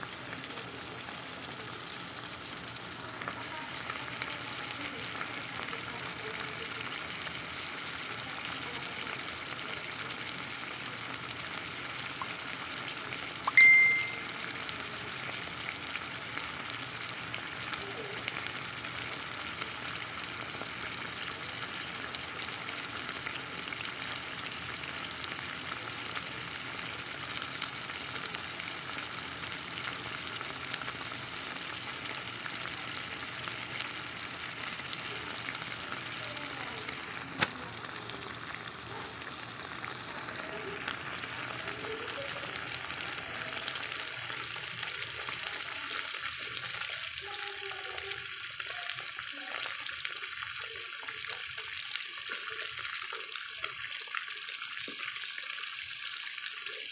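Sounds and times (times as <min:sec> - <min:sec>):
food sizzling in a pan: 0:00.0 - 0:56.9.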